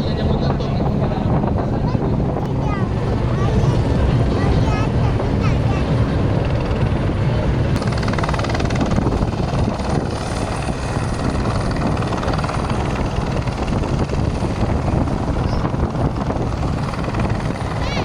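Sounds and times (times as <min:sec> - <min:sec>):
helicopter engine noise: 0:00.0 - 0:18.0
helicopter rotor blades beating: 0:00.0 - 0:18.0.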